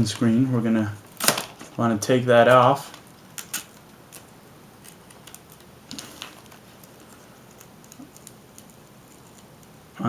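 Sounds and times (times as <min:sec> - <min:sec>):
tape peeling: 0:00.9 - 0:10.0.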